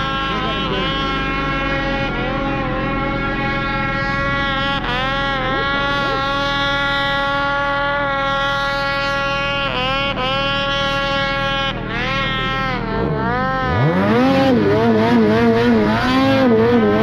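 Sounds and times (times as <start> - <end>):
snowmobile engine high revs: 0.0 - 17.0.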